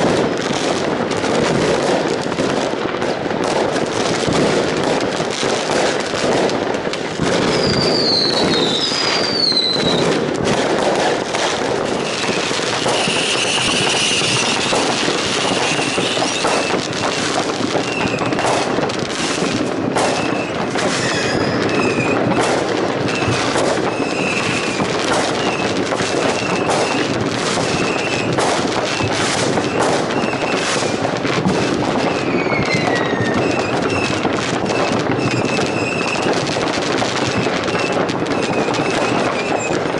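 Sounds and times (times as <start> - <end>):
fireworks bangs and crackle: 0.0 - 39.9
whistling rockets falling in pitch: 3.4 - 39.9.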